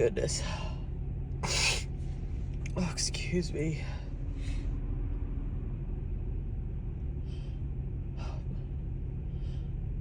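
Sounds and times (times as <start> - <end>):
low car cabin rumble: 0.0 - 10.0.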